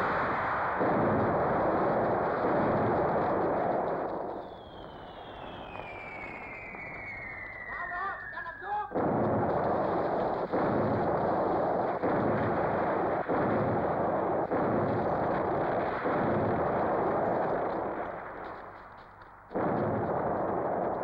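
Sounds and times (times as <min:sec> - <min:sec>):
muffled explosions: 0:00.0 - 0:21.0.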